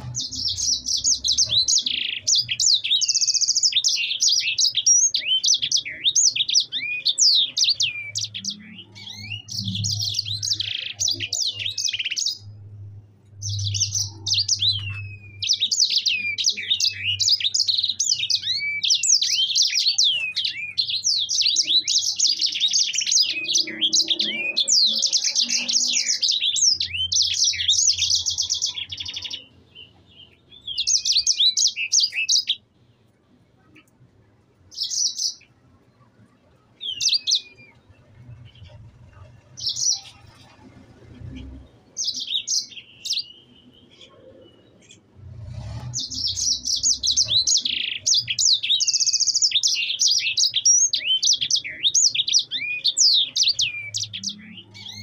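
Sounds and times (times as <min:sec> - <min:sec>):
finch singing trills: 0:00.0 - 0:32.6, 0:36.6 - 0:55.0.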